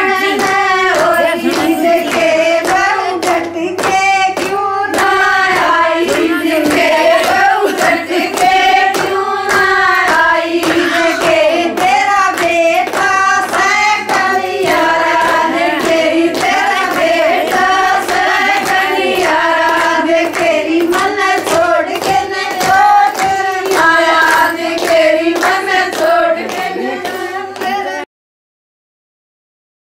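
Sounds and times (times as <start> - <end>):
rhythmic hand-clapping: 0.0 - 28.1
women singing in unison: 0.0 - 28.1.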